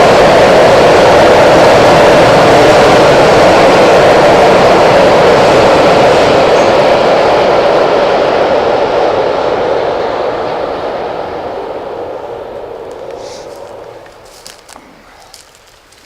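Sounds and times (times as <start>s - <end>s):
train crossing iron bridge: 0.0s - 16.0s.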